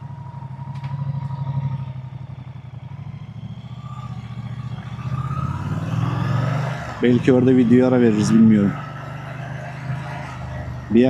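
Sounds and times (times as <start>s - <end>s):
motorcycle exhaust pulsing: 0.0s - 11.0s.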